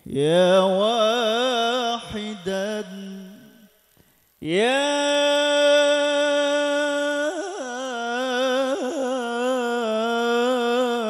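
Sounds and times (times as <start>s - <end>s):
man singing into microphone: 0.0s - 3.8s, 4.4s - 11.0s.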